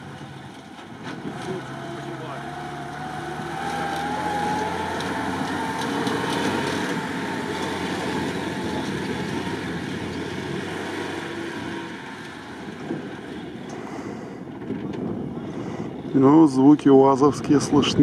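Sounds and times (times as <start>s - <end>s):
off-road vehicle engine under load: 0.0s - 18.0s.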